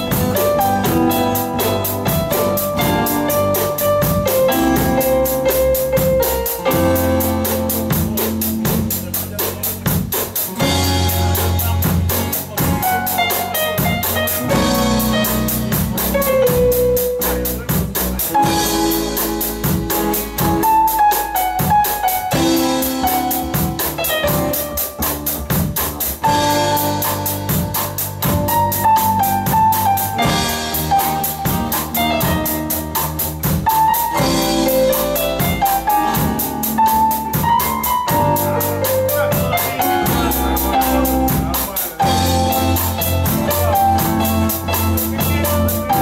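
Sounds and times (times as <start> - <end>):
acoustic guitar: 0.0 - 46.0
drum kit beat on cymbals: 0.0 - 46.0
electric bass: 0.0 - 46.0
keyboard melody: 0.0 - 46.0.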